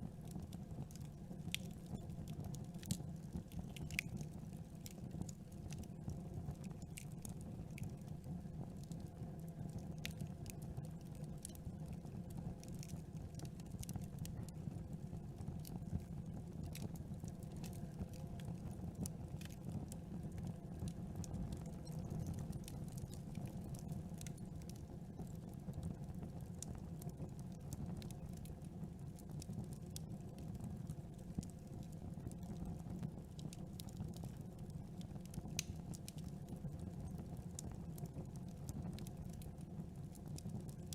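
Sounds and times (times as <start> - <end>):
campfire flames rumbling: 0.0 - 40.9
wood crackling and popping: 0.1 - 40.9.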